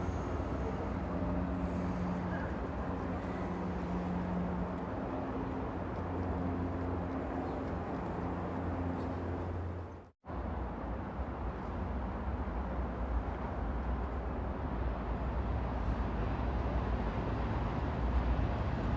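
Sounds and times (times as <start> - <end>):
train rumbling: 0.0 - 18.9.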